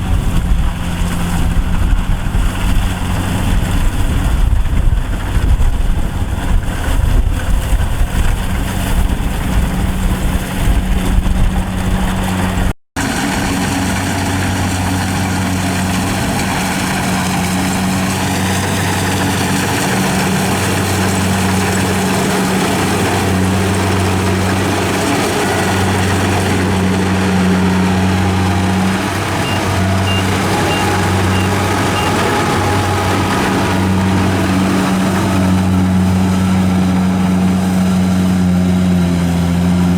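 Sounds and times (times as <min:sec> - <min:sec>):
harvester engine hum: 0:00.0 - 0:39.9.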